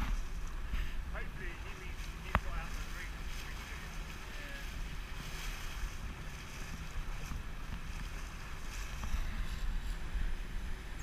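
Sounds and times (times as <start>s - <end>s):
boat engine running: 0.0s - 11.0s
water rushing along hull: 0.0s - 11.0s
wind buffeting microphone: 0.0s - 11.0s.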